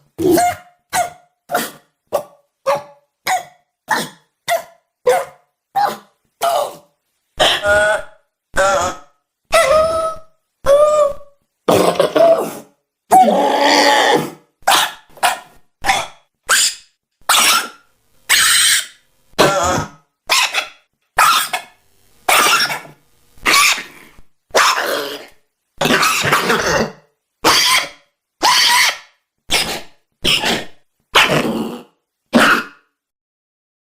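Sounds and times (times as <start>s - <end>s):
cough-like vocal noises: 0.2s - 9.9s, 11.7s - 17.9s, 19.3s - 33.0s.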